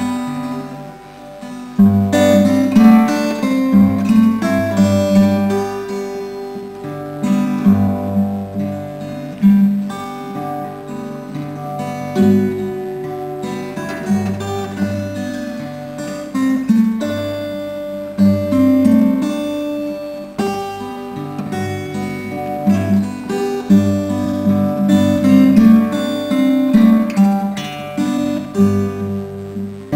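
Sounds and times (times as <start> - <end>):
acoustic guitar playing: 0.0 - 29.9.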